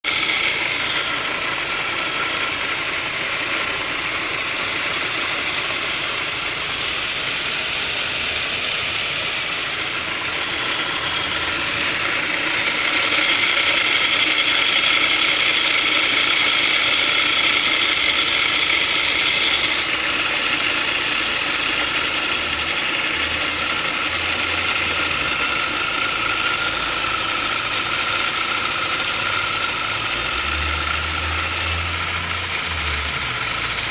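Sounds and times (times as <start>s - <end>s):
engine running with odd noise: 0.0s - 33.9s.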